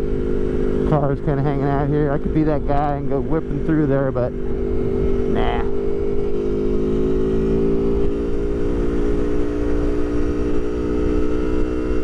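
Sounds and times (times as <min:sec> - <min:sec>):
wind rumble: 0:00.0 - 0:11.4
motorcycle engine running: 0:00.0 - 0:12.0.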